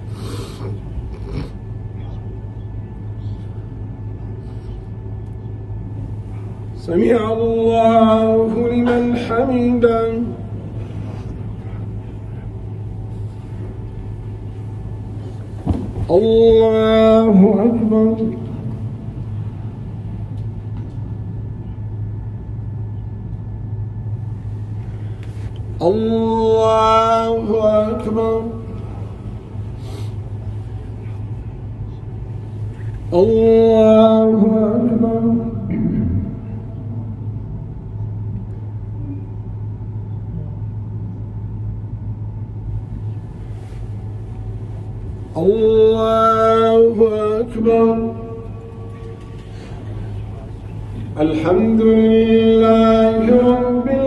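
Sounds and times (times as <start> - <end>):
faint low rumble: 0.0 - 54.0
steady low hum: 0.0 - 54.0.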